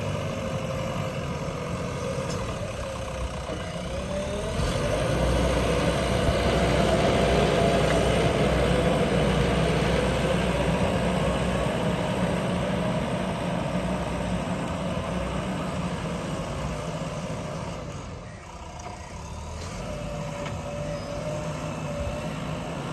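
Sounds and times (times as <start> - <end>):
diesel engine revving: 0.0 - 22.9.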